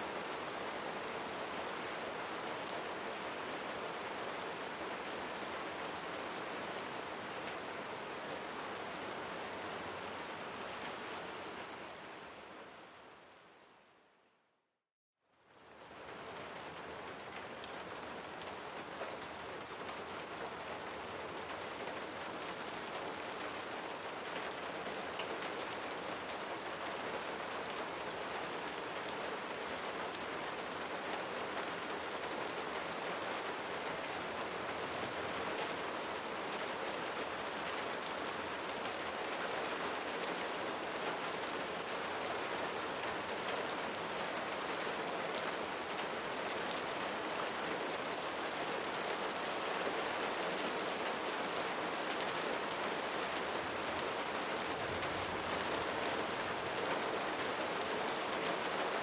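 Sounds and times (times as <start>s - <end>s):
rain falling on leaves: 0.0s - 14.1s, 15.3s - 59.0s.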